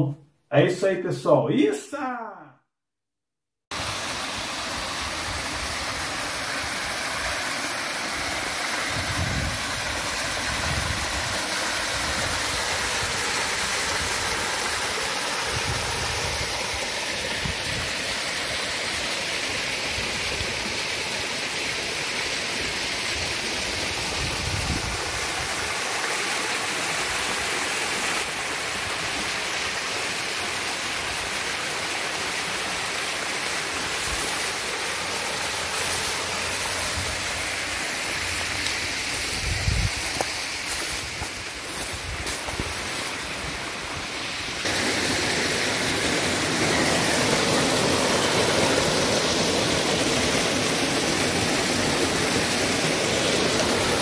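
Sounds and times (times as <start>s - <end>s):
water rushing in a rocky creek: 3.7s - 54.0s.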